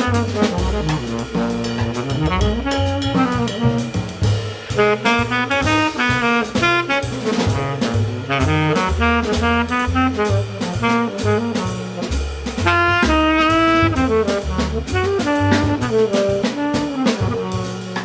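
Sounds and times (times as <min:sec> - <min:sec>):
baritone saxophone: 0:00.0 - 0:18.0
double bass: 0:00.0 - 0:18.0
drum kit: 0:00.0 - 0:18.0
trumpet: 0:00.0 - 0:18.0.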